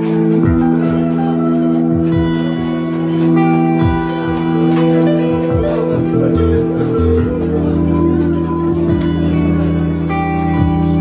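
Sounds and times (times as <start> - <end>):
electric guitars ringing chords: 0.0 - 11.0
steady drum beat: 0.0 - 11.0.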